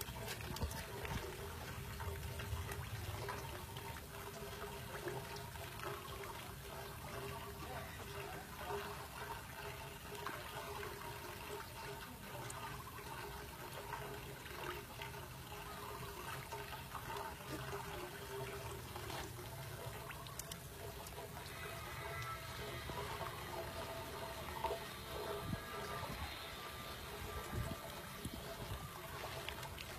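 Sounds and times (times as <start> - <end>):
faint steady hum: 0.0 - 29.9
water splashing and churning: 0.0 - 29.9.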